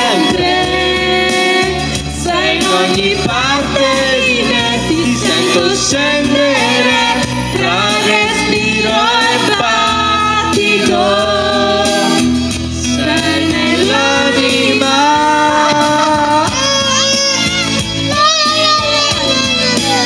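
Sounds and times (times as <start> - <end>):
backing music: 0.0 - 20.0
group singing into microphones: 0.0 - 20.0.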